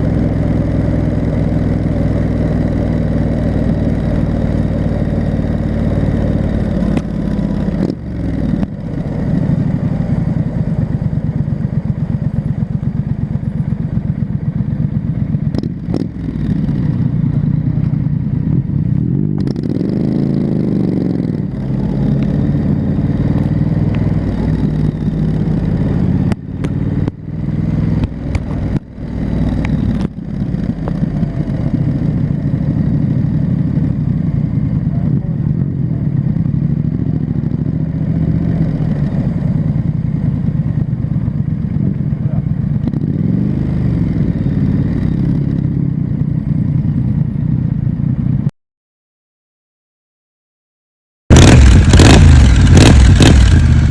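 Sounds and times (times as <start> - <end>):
motorcycle engine running: 0.0 - 48.5, 51.3 - 53.9.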